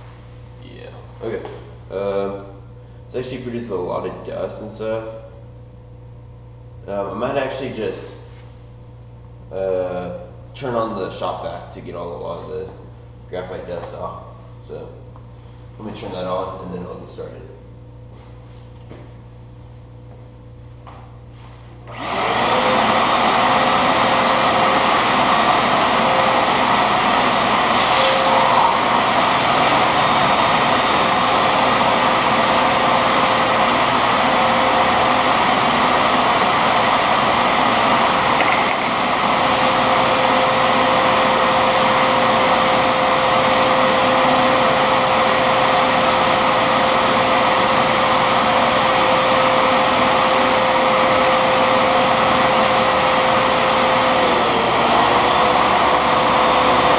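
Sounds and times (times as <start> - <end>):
shop vacuum running: 0.0 - 56.9.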